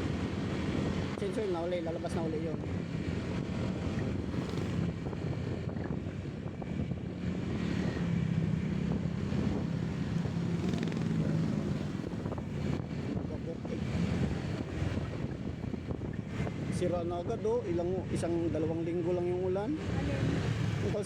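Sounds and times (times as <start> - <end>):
road noise: 0.0 - 21.0
vehicle engine drone: 0.0 - 21.0.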